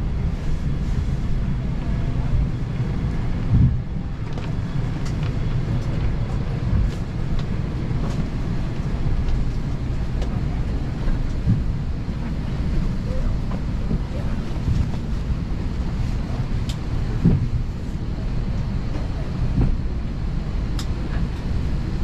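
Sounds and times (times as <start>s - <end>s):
aircraft cabin rumble: 0.0s - 22.0s.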